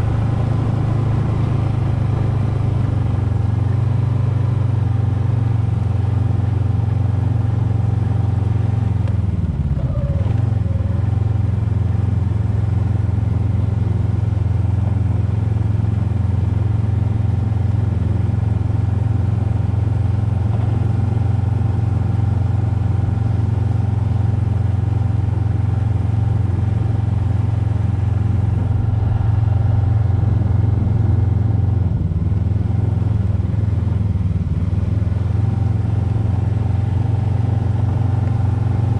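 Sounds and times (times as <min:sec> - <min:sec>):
snowmobile engine droning: 0:00.0 - 0:38.9.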